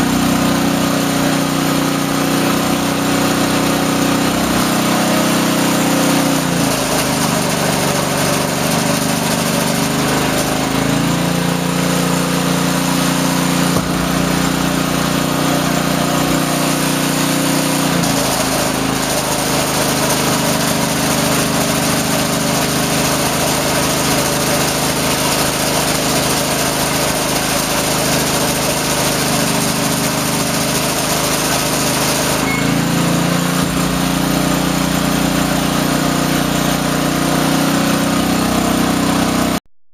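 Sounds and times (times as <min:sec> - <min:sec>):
small tractor engine running: 0:00.0 - 0:39.6.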